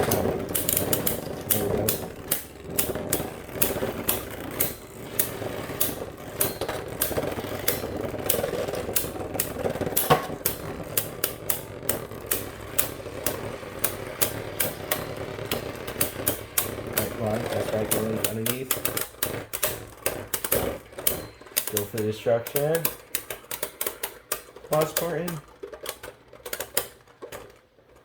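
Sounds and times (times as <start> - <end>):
spinning tops clacking together: 0.0 - 27.8
spinning tops whirring: 0.0 - 28.0.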